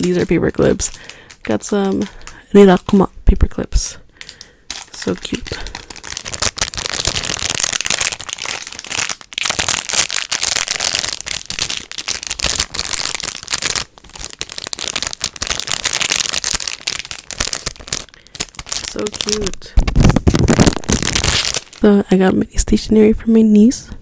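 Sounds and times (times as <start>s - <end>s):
packaging crinkling: 0.0s - 3.0s, 4.1s - 22.0s.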